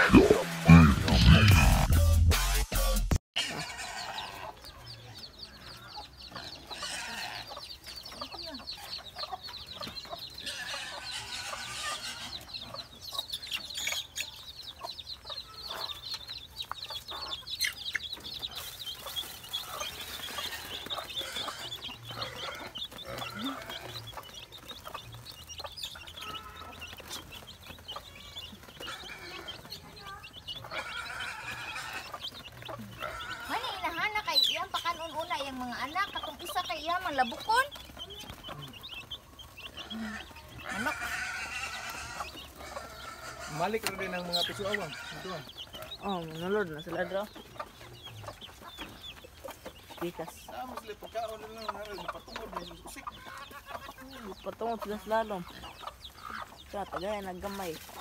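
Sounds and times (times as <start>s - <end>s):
chickens clucking: 0.0s - 58.0s
high-pitched twittering calls: 3.5s - 58.0s.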